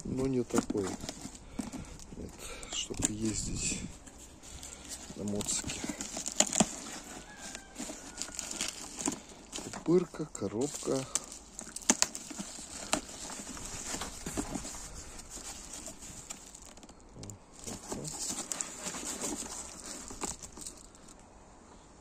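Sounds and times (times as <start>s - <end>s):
cardboard flaps rustling: 0.0s - 21.1s
bubble wrap crinkling: 0.0s - 21.2s.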